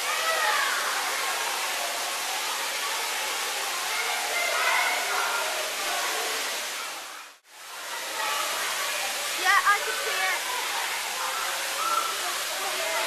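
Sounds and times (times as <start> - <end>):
faint children's voices: 0.0 - 13.0.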